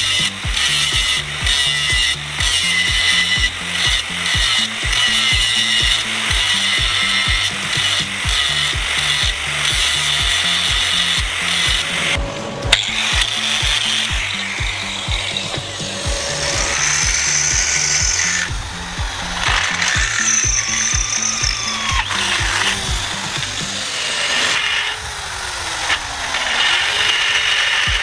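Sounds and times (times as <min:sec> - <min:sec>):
music with fast beat and bass: 0:00.0 - 0:24.0
tools scraping and rubbing: 0:00.0 - 0:25.0.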